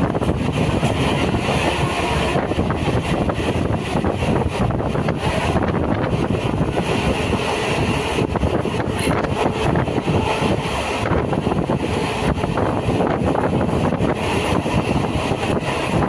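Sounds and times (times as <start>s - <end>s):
train wheels rumbling on track: 0.0s - 16.0s
wind buffeting microphone: 0.0s - 16.0s.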